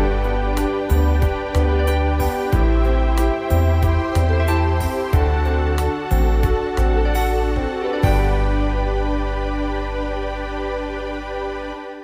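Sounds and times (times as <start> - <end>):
low bass: 0.0 - 12.0
sustained keyboard chord: 0.0 - 12.0.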